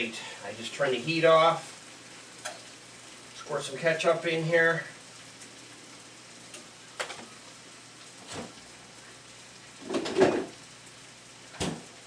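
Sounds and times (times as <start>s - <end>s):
meat sizzling faintly in a pan: 0.0s - 12.0s.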